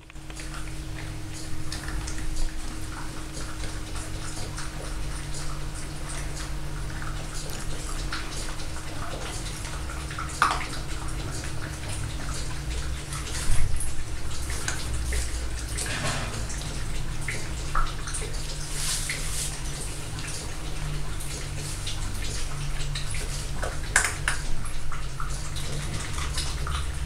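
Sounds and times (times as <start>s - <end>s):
puppy chewing and licking: 0.0s - 27.0s.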